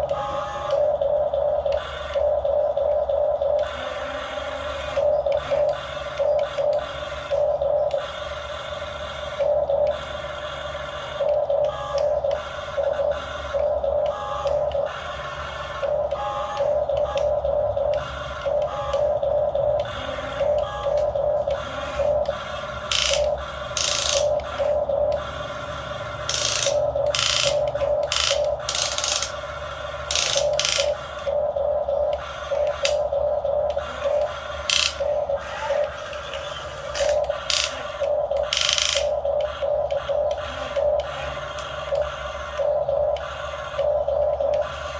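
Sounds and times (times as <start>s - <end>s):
small electric motors whining: 0.0s - 44.9s.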